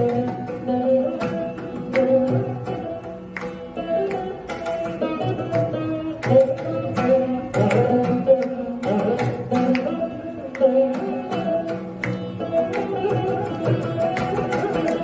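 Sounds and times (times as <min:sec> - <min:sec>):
mridangam drum strokes: 0:00.0 - 0:15.0
plucked veena phrases: 0:00.0 - 0:15.0.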